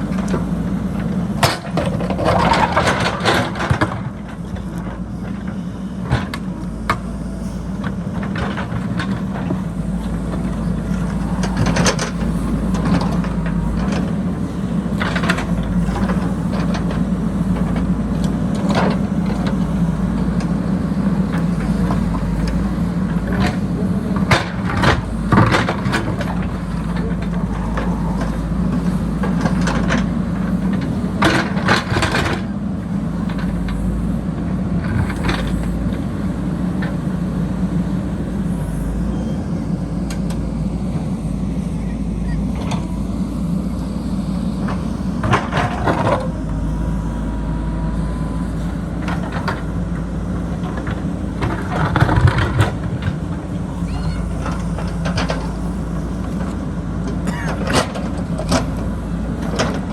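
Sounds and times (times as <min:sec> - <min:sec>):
diesel engine working under load: 0:00.0 - 0:59.9.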